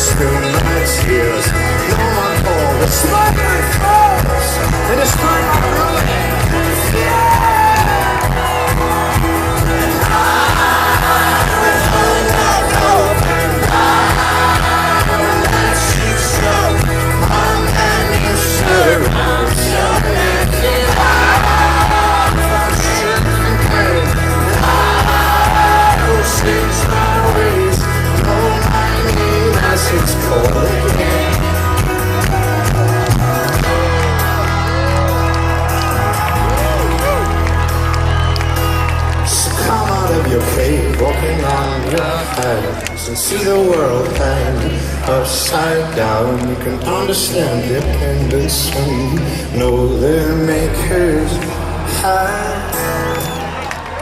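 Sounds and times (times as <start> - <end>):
people singing: 0.0 - 32.4, 39.3 - 53.4
crowd noise: 0.0 - 54.0
live folk-rock band playing: 0.0 - 54.0.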